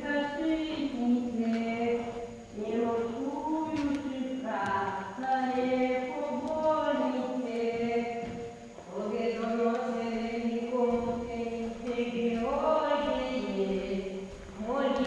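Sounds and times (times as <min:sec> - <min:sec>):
slow vocal chant: 0:00.0 - 0:15.0.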